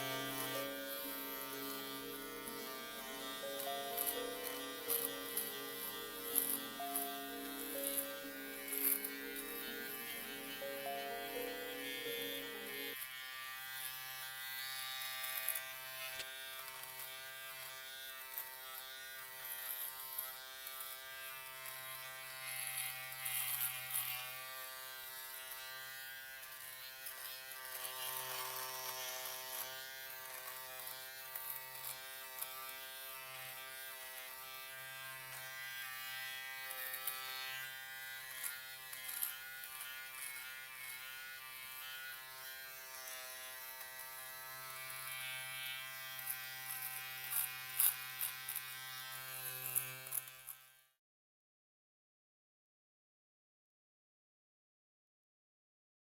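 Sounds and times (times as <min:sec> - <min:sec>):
electric shaver buzzing: 0:00.0 - 0:51.0.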